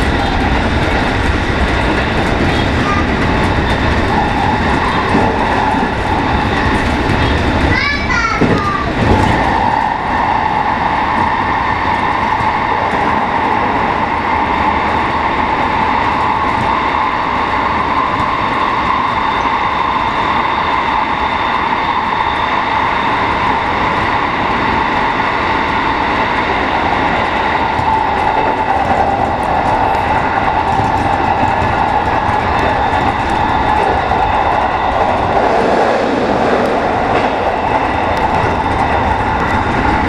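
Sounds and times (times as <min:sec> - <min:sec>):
train wheels rumbling: 0:00.0 - 0:40.0.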